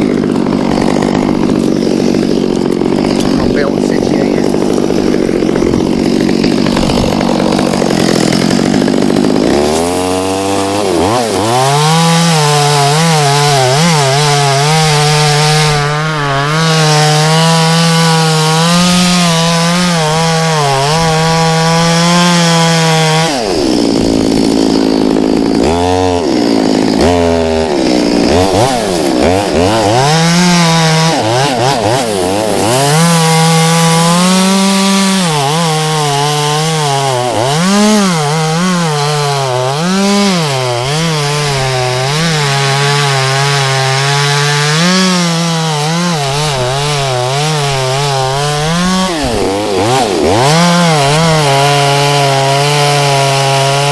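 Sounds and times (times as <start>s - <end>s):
chainsaw cutting and revving: 0.0s - 53.9s.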